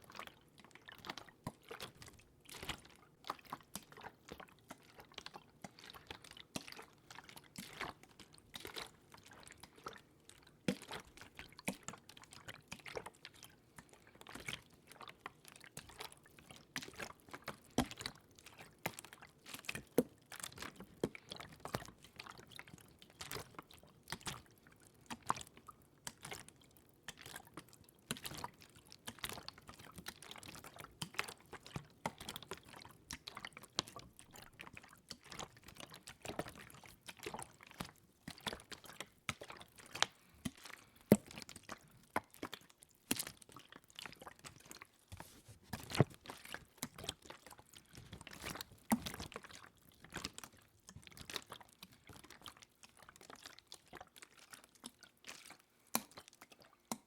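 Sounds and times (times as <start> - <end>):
water drips and trickles: 0.1 - 57.0.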